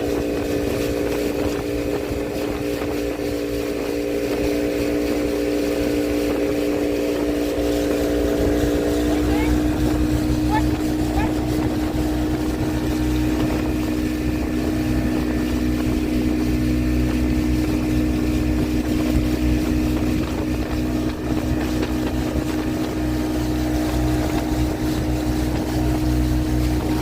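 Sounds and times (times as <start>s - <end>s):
motorboat engine droning: 0.0s - 27.0s.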